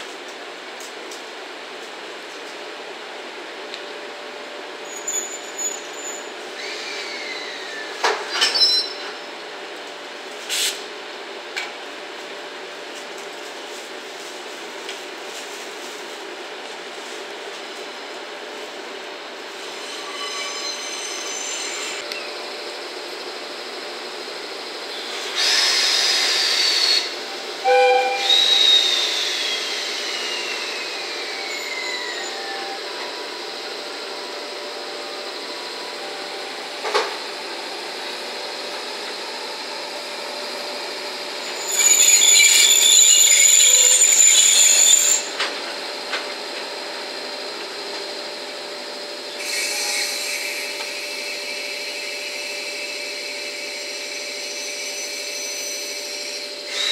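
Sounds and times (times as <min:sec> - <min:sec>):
locomotive running noise: 0:00.0 - 0:56.9.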